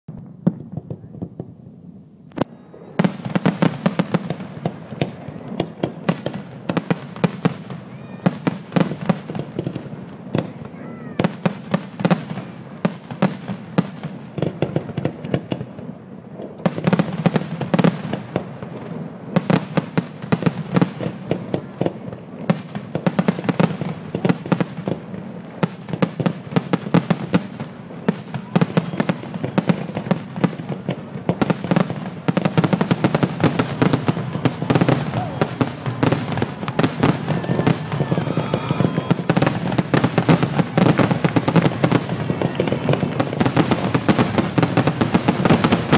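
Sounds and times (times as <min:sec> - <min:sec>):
fireworks bursting with bangs: 0:00.1 - 0:45.9.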